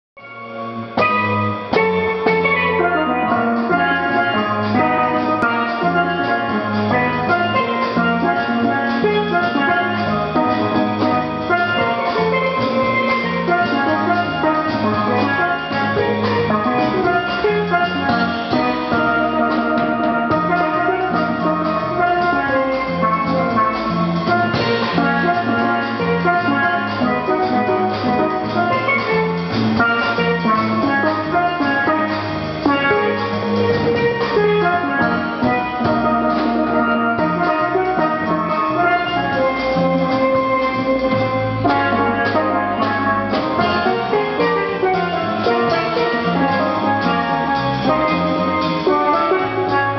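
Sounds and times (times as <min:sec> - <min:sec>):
drum kit: 0:00.2 - 0:49.9
plucked double bass: 0:00.2 - 0:49.9
steelpan solo: 0:00.2 - 0:49.9.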